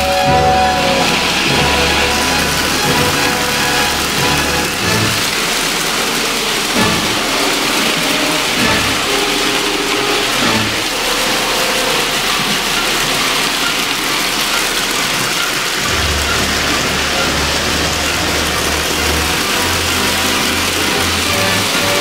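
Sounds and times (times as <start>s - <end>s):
toy trains rolling rumble: 0.0s - 22.0s.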